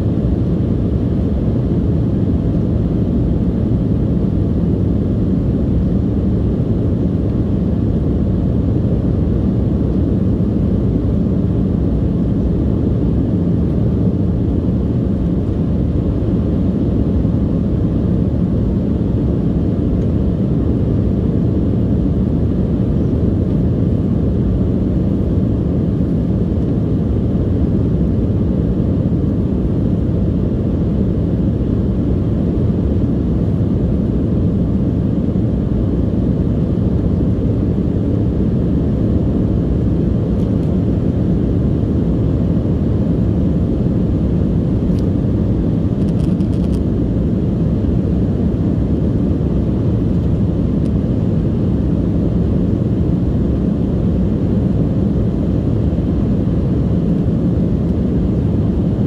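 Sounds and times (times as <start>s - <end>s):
jet engine and airflow rumble: 0.0s - 59.0s.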